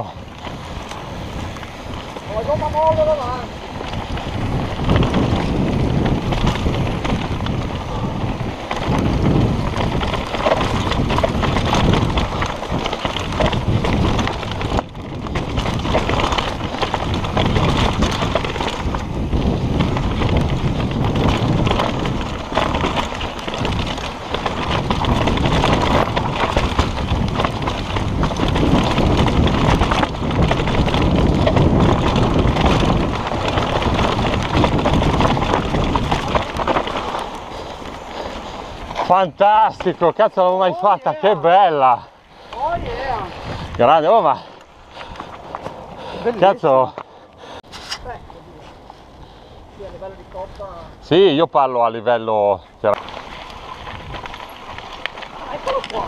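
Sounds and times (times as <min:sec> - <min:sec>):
wind on microphone: 0:00.0 - 0:40.2, 0:42.2 - 0:46.3, 0:52.8 - 0:56.0
bike rattling over bumps: 0:00.0 - 0:56.0
bike tyres on loose stones: 0:00.0 - 0:56.0.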